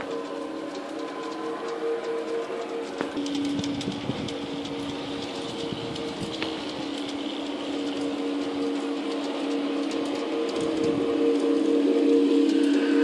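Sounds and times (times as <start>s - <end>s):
model train motor hum: 0.0s - 13.0s
wheels clicking on track: 0.0s - 13.0s.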